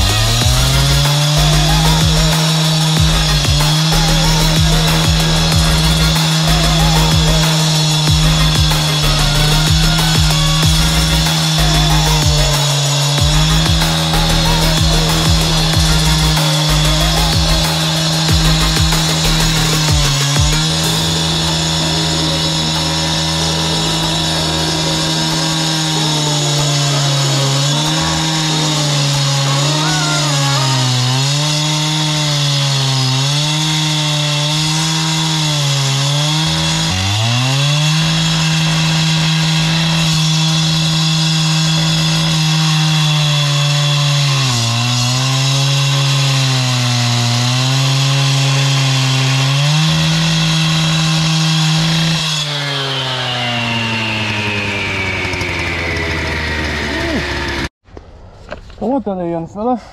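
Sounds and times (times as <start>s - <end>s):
concrete saw cutting: 0.0s - 57.8s.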